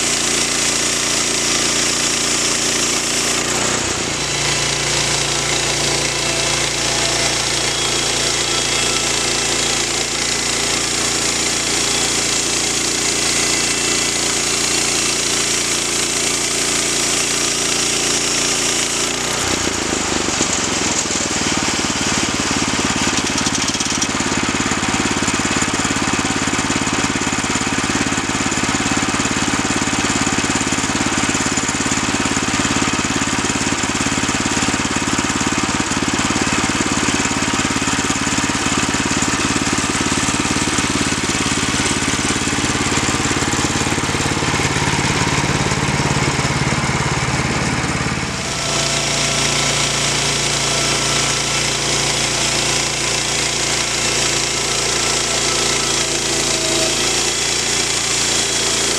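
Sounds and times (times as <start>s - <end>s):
bandsaw mill engine running: 0.0s - 58.9s.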